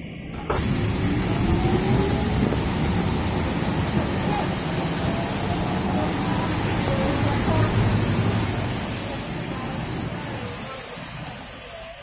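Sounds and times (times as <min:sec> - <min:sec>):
rain hiss: 0:00.0 - 0:12.0
tram running on rails: 0:00.0 - 0:12.0.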